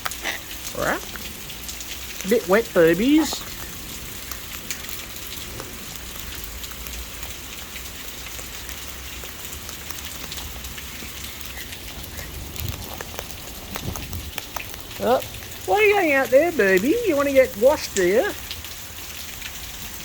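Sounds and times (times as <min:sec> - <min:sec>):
rain falling steadily: 0:00.0 - 0:20.0.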